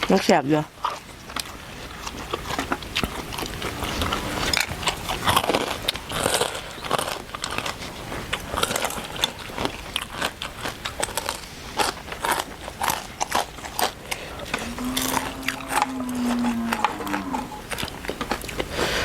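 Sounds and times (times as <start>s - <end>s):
chewing crispy pork rind: 0.0s - 19.0s.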